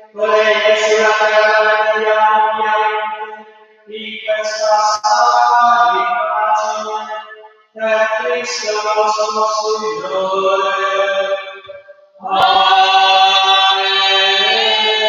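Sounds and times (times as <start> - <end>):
hymn singing: 0.0 - 15.0.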